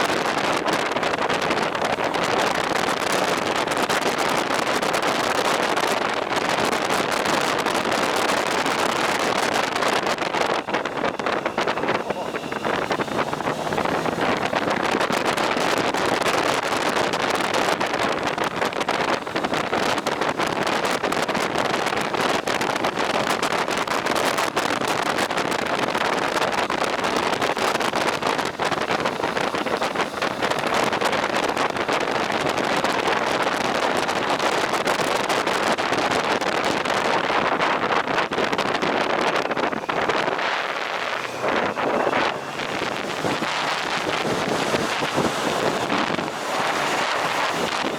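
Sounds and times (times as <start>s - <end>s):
road and vehicle noise: 0.0s - 47.9s
wind rushing over microphone: 0.0s - 47.9s.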